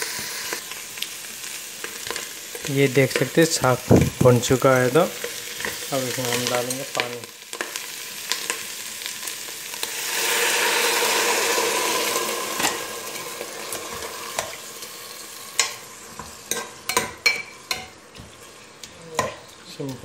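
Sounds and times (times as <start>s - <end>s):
vegetables sizzling in a pot: 0.0s - 20.0s.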